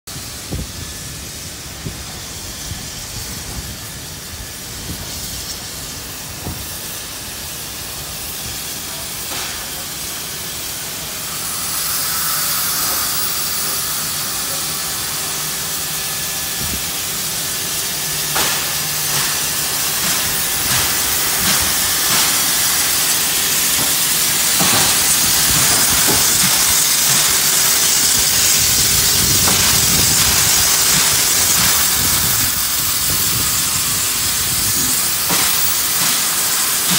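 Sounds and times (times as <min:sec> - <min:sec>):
steam hissing: 0:00.1 - 0:36.9
steam locomotive moving slowly: 0:00.1 - 0:36.9.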